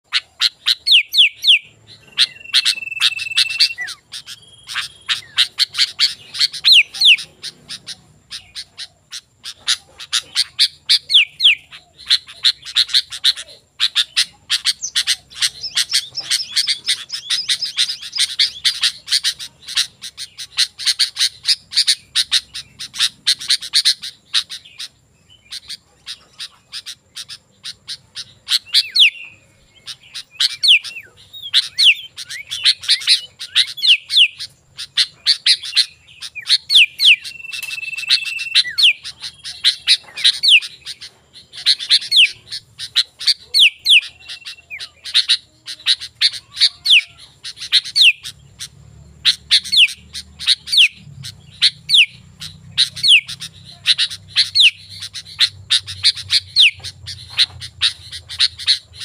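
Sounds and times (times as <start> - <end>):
bird singing chirps and whistles: 0.1 - 59.0.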